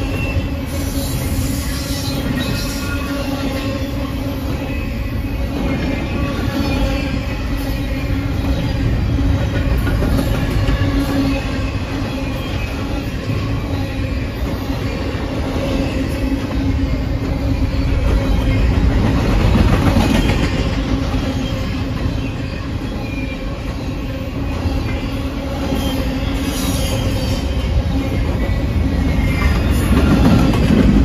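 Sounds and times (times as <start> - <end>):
high wheel squeal: 0.0 - 9.2, 10.1 - 19.2, 19.9 - 30.5
train wheels rumbling on rail: 0.0 - 31.0.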